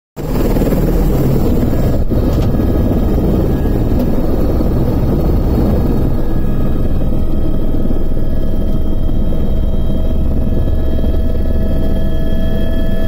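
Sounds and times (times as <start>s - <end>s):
faint whine tones: 0.2s - 13.0s
helicopter engine and rotor rumble: 0.2s - 13.0s.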